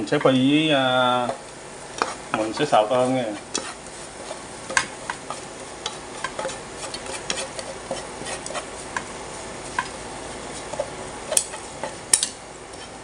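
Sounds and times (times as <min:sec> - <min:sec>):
frying oil sizzling: 0:00.0 - 0:13.0
chopsticks scraping frying pan: 0:01.2 - 0:13.0.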